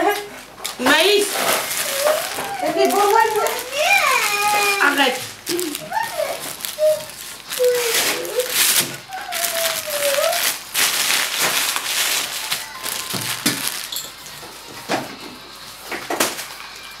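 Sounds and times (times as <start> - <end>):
crispbread crunching: 0.9 - 14.6.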